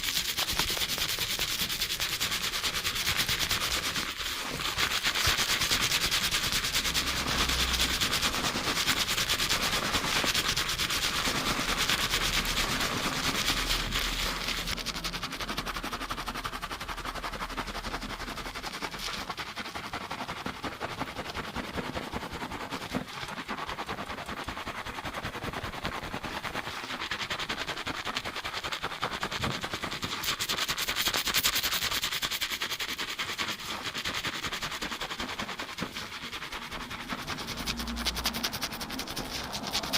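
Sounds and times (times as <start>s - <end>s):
fingers scrubbing lathered hair: 0.0s - 39.9s.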